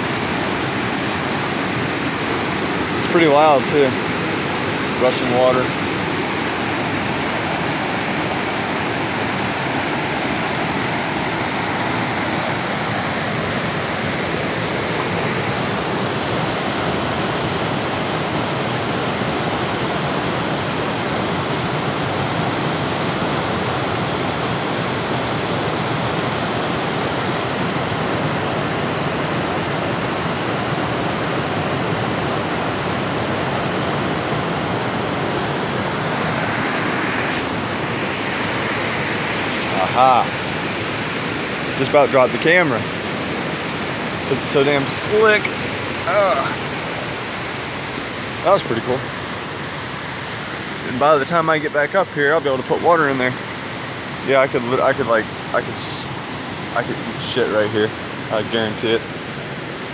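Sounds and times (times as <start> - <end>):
creek rapids rushing: 0.0 - 59.9.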